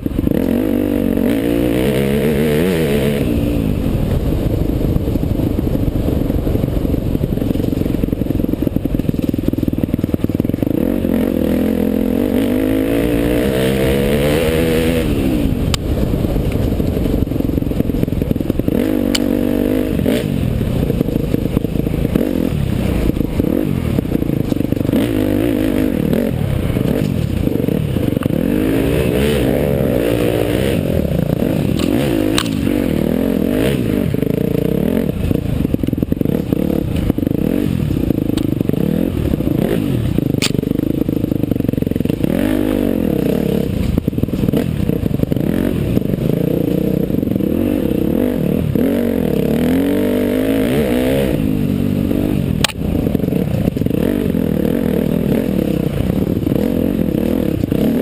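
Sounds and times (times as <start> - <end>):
bike rattling and scraping: 0.0 - 58.0
dirt bike engine revving: 0.0 - 58.0.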